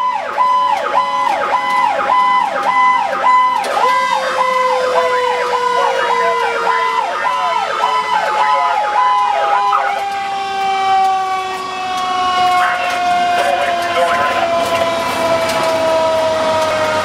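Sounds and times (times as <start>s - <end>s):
siren winding down: 0.0s - 17.0s
two-tone siren: 0.0s - 17.0s.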